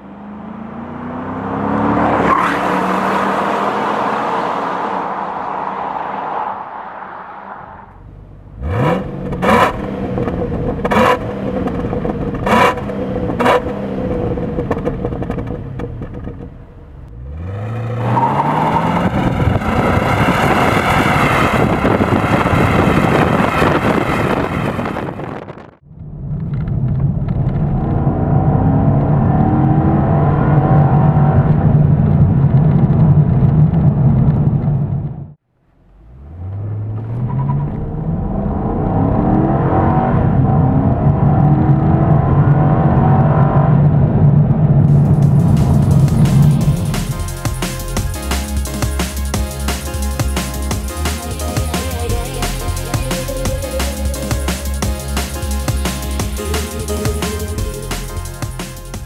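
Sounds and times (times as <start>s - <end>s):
car engine accelerating: 0.0s - 59.0s
engine revs with pops: 7.9s - 35.3s, 36.1s - 59.0s.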